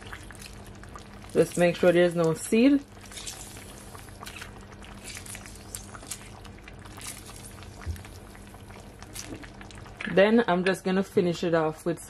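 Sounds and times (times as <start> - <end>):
sauce bubbling and popping: 0.0 - 10.9
faint steady hum: 0.0 - 12.0.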